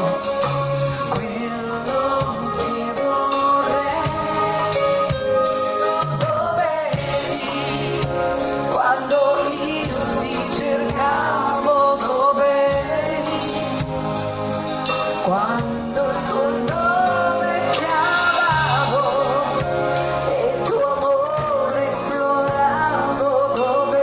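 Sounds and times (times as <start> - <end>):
drums: 0.0 - 24.0
live pop band playing: 0.0 - 24.0
woman singing: 1.0 - 14.1, 15.2 - 24.0.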